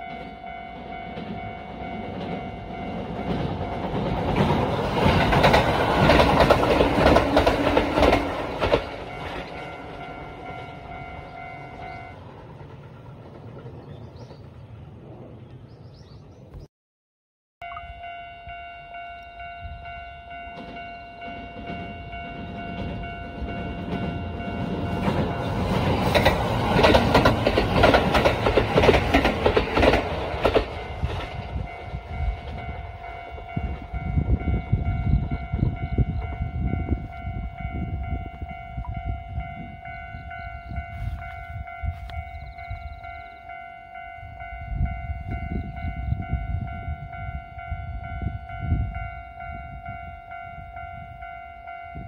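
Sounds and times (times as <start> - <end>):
train rumbling past: 0.0 - 16.5, 17.8 - 52.0.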